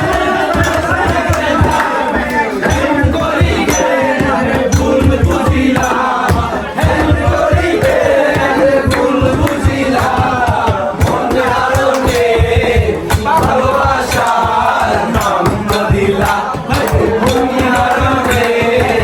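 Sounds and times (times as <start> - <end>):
song with voices over a driving beat: 0.0 - 19.0.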